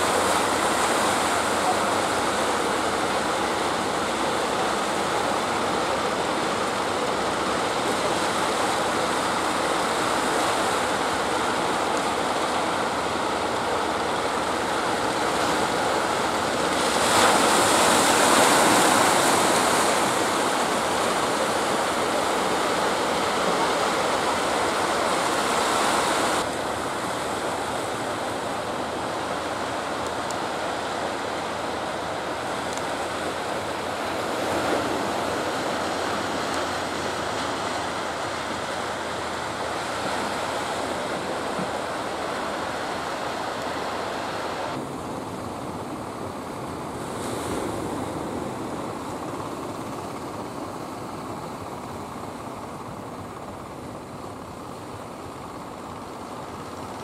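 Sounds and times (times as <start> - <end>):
choppy sea water and surf: 0.0 - 57.0.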